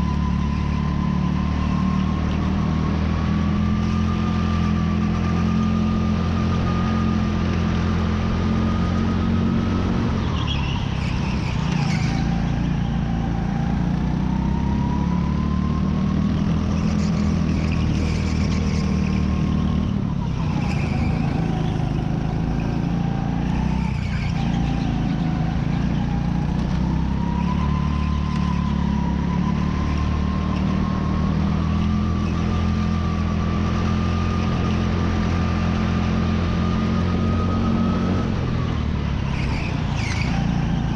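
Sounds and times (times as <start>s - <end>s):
kart engine at speed: 0.0s - 40.9s.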